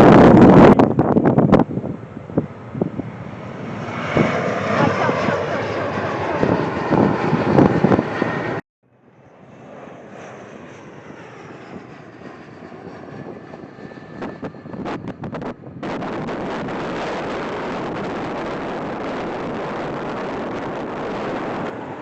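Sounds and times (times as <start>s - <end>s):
high jet engine whine: 0.0s - 22.0s
jet engine rush: 0.0s - 22.0s.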